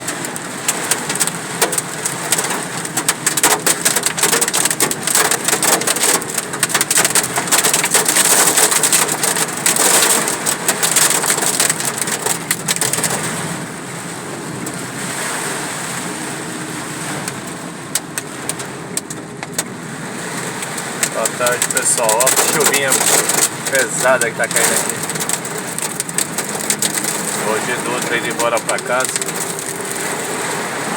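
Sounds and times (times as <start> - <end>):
hail pelting a vehicle: 0.0 - 30.9
rain hiss: 0.1 - 30.9.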